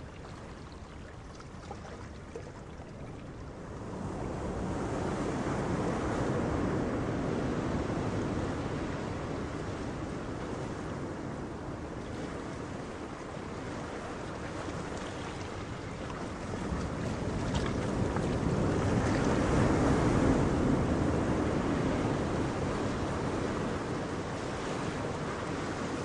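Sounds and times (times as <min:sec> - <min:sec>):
ocean waves: 0:00.0 - 0:26.0
wind: 0:00.0 - 0:26.0.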